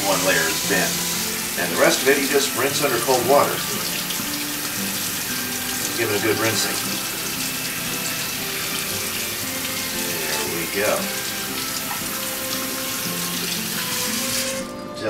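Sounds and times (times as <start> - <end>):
faucet water splashing on cabbage: 0.0 - 14.9.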